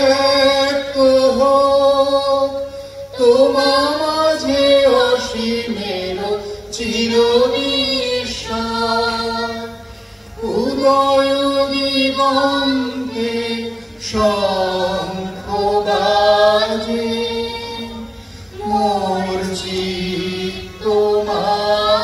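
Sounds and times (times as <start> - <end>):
group of voices singing: 0.0 - 22.0.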